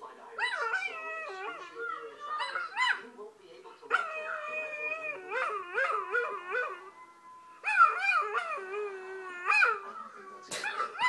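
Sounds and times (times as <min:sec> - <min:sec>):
dog howling: 0:00.4 - 0:03.0, 0:04.0 - 0:11.0.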